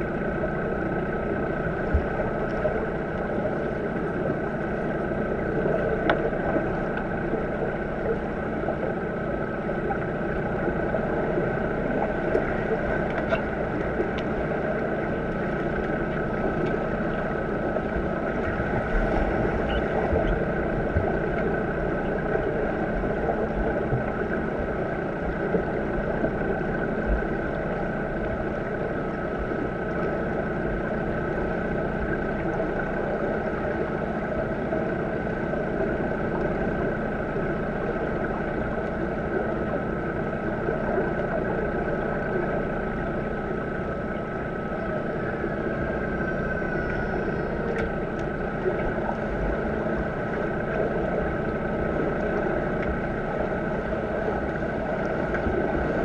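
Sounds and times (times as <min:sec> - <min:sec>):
underwater mechanical hum: 0:00.0 - 0:56.0.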